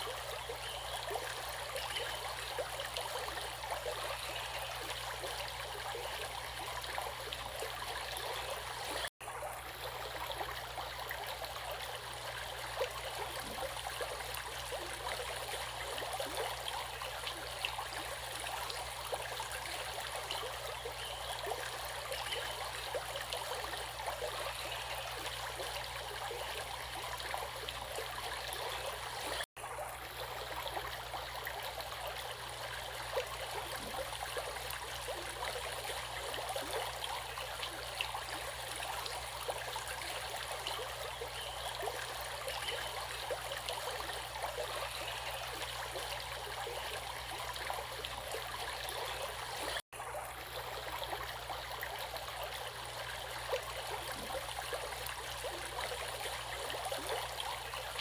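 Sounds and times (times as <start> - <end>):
stream water rushing and trickling: 0.0 - 58.0.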